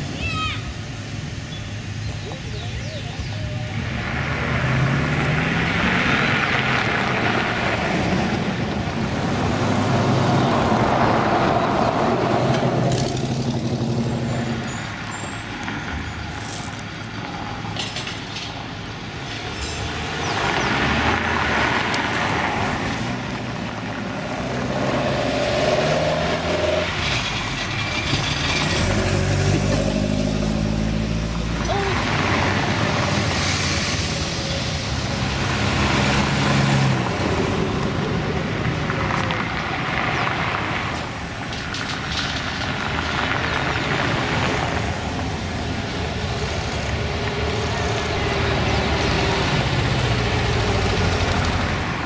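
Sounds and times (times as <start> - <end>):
cars driving past: 2.8 - 52.0.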